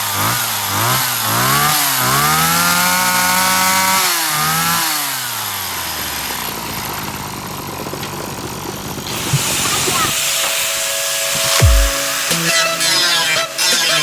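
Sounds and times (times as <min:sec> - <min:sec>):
grass trimmer engine revving: 0:00.0 - 0:14.0.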